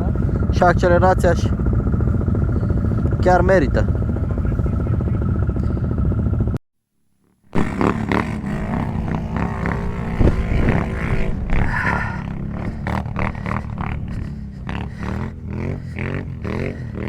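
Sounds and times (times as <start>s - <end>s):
atv engine revving: 0.0s - 6.6s, 7.5s - 17.0s.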